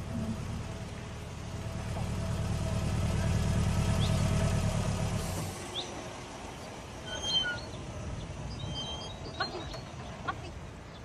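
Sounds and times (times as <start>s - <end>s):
car engine approaching: 0.0s - 11.0s.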